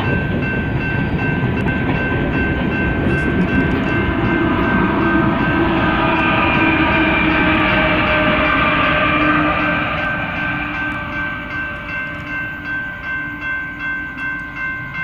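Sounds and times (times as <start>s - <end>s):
diesel locomotive engine: 0.0s - 15.0s
steady high-pitched tone: 0.0s - 15.0s
train cars rumbling over rails: 0.0s - 15.0s.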